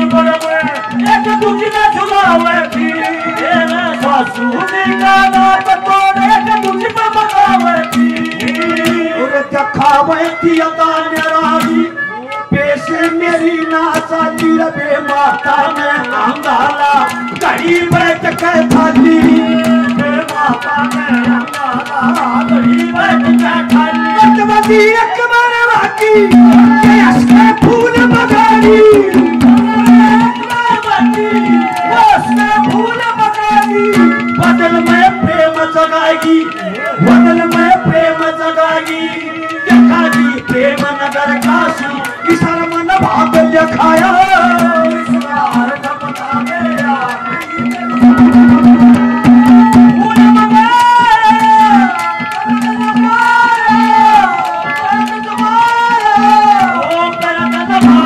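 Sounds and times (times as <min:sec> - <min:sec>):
fast hand-drum strokes: 0:00.0 - 0:58.0
held melodic accompaniment: 0:00.0 - 0:58.0
man singing into microphone: 0:00.0 - 0:58.0.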